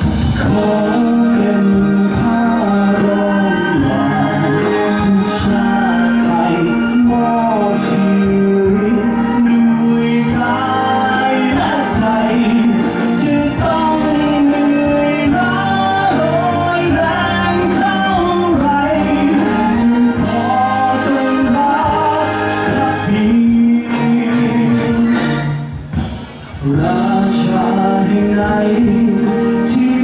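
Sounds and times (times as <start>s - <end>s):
person singing: 0.0s - 25.7s, 26.5s - 30.0s
band playing with bass: 0.0s - 30.0s.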